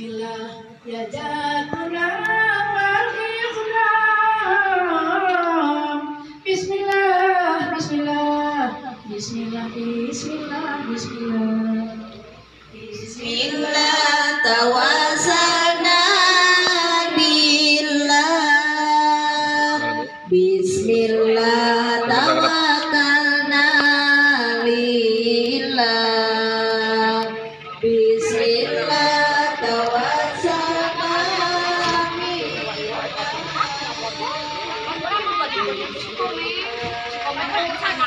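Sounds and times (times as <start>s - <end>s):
woman singing slow melody: 0.0s - 32.6s.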